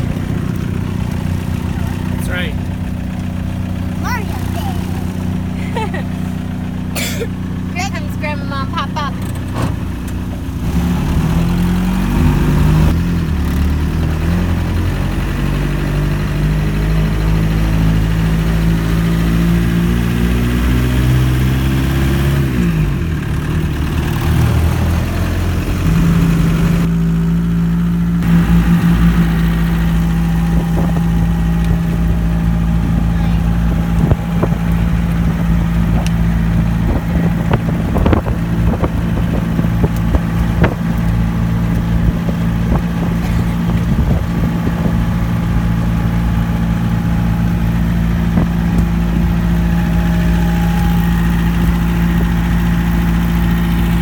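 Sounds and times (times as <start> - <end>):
car engine running while driving: 0.0 - 54.0.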